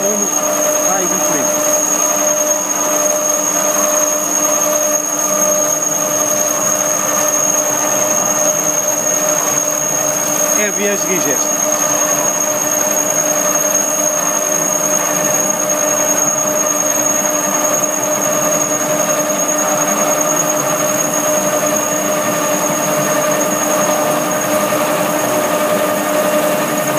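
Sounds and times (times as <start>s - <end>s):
core drill cutting steel with squeal: 0.0s - 26.9s.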